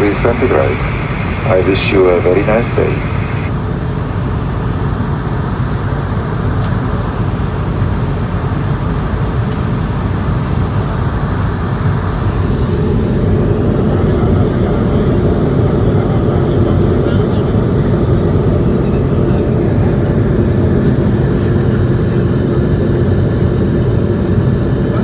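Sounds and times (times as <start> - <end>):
airplane cabin drone: 0.0 - 25.0.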